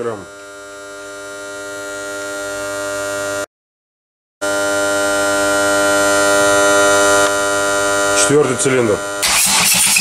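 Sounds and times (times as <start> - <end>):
steady machine hum: 0.0 - 3.5, 4.4 - 9.2.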